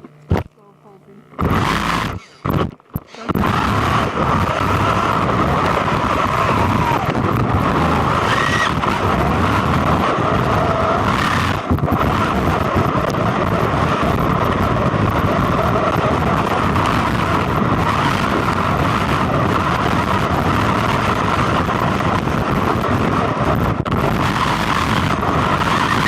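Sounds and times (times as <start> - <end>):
electric motor whine: 0.0 - 26.0.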